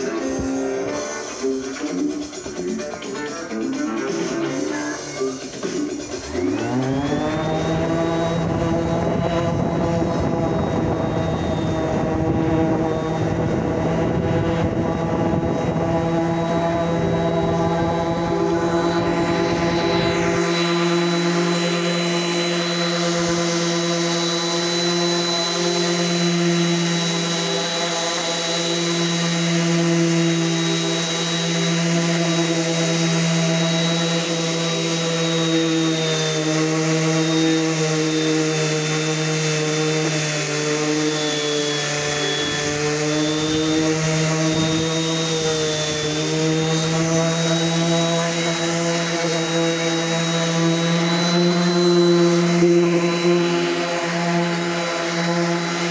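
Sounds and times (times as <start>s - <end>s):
orbital sander motor hum: 0.0s - 55.9s
sander rubbing on wood: 0.0s - 55.9s.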